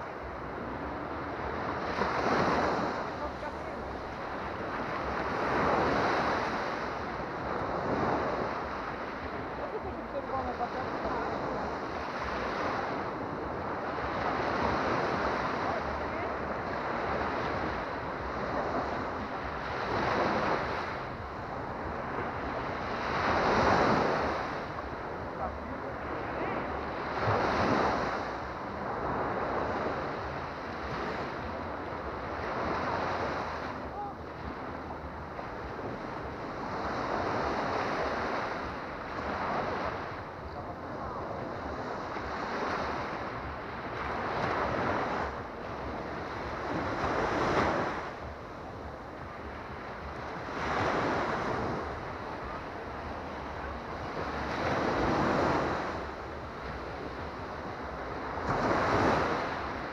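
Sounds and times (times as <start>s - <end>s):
small waves breaking on sand: 0.0s - 59.9s
wind rumbling on microphone: 0.0s - 59.9s.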